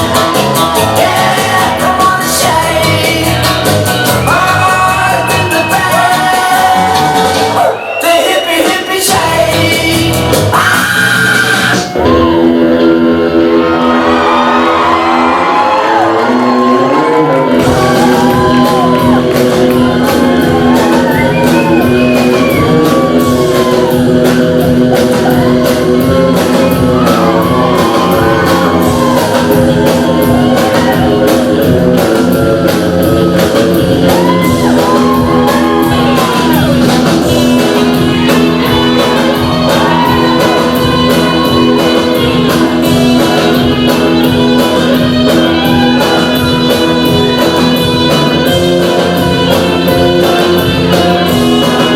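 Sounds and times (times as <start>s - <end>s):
rock and roll music with vocals: 0.0s - 51.9s.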